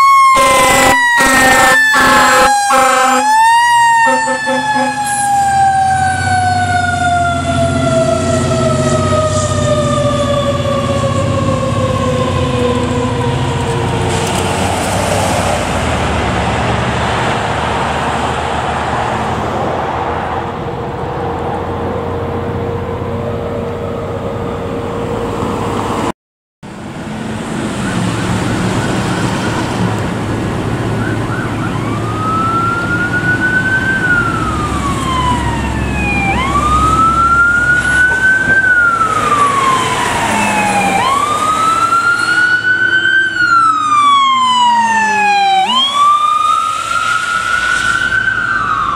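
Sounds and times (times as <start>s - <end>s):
ambulance siren: 0.0s - 26.1s, 27.3s - 48.9s
fire engine siren: 0.0s - 48.9s
truck engine rumble: 0.0s - 48.9s.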